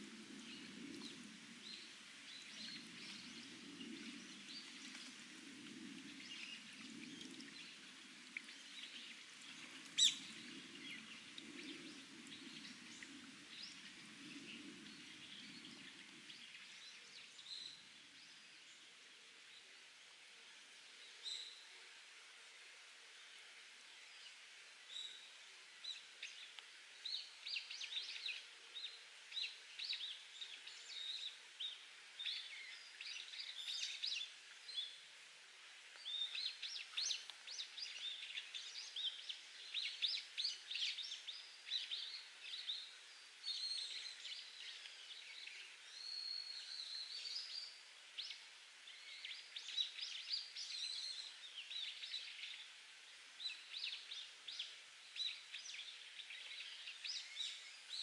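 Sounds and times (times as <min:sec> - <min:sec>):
songbirds chirping and trilling: 0:00.0 - 0:58.0
trickling water hiss: 0:00.0 - 0:58.0.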